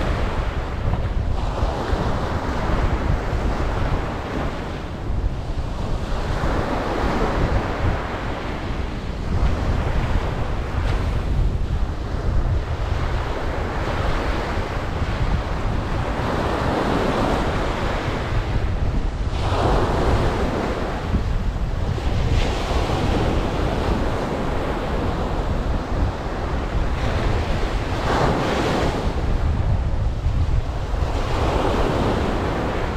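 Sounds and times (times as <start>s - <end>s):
ocean surf washing onto beach: 0.0s - 32.9s
wind rumble on microphone: 0.0s - 32.9s.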